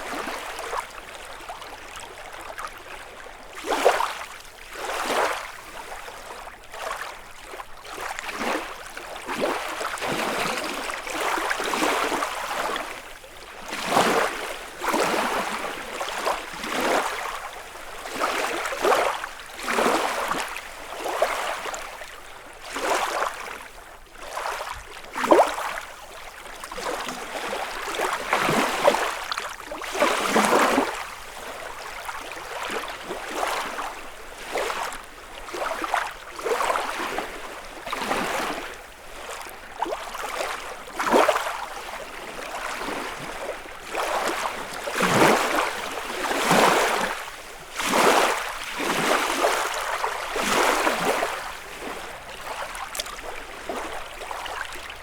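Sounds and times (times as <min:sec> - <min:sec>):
lake waves lapping on shore: 0:00.0 - 0:55.0.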